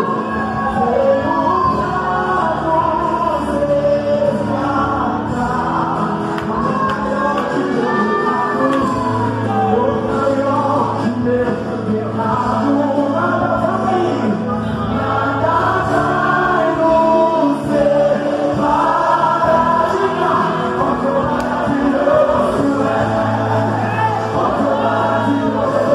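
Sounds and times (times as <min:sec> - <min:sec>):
congregation singing: 0:00.0 - 0:25.9
man singing into a microphone: 0:00.0 - 0:25.9.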